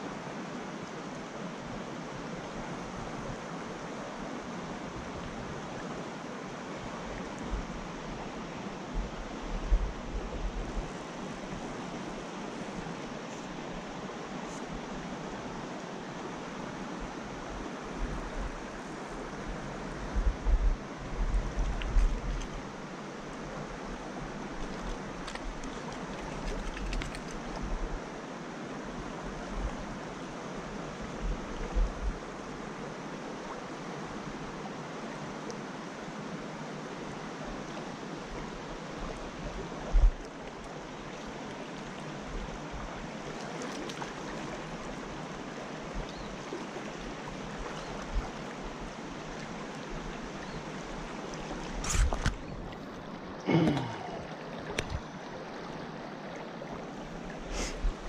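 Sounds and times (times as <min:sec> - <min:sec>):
creek water rushing over rocks: 0:00.0 - 0:58.0.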